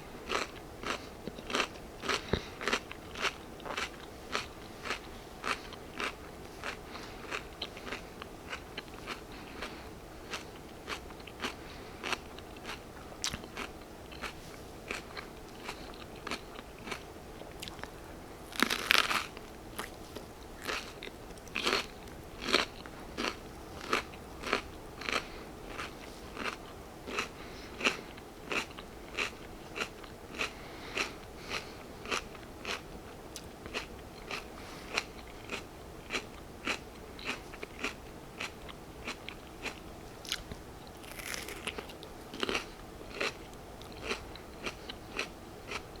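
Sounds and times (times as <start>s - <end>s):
crunchy chewing of peppers: 0.0s - 46.0s.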